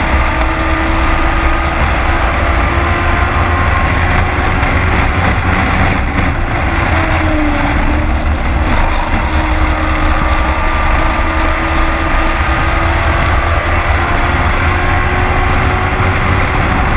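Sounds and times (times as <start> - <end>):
truck engine rumbling: 0.0 - 16.9.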